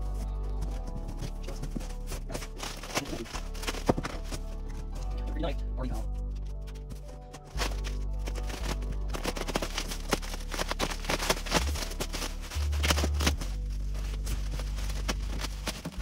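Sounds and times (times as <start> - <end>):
bubble wrap crinkling: 0.0 - 5.4, 6.0 - 16.0
background music with deep bass: 0.0 - 16.0.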